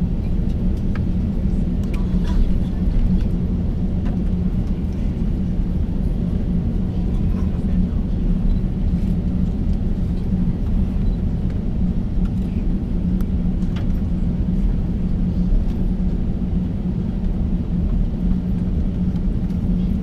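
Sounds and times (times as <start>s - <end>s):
aircraft cabin rumble: 0.0s - 20.0s
jet engines humming: 0.0s - 20.0s.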